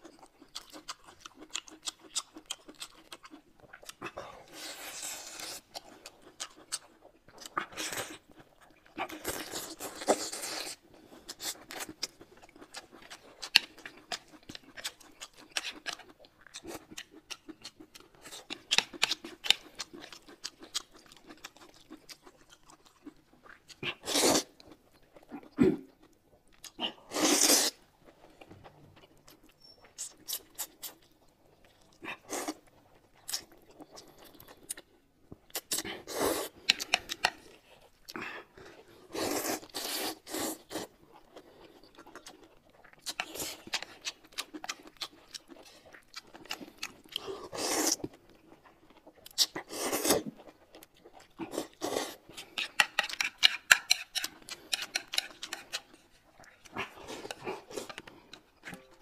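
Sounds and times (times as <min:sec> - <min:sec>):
chewing and crunching: 0:00.0 - 0:59.0.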